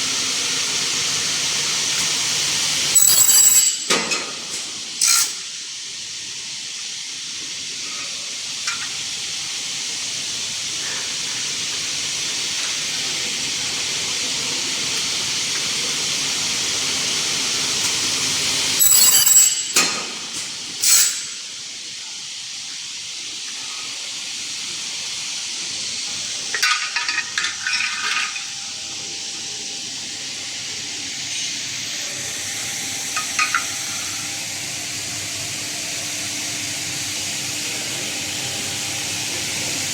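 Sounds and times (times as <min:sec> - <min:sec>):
circular saw machine hissing: 0:00.0 - 0:39.9.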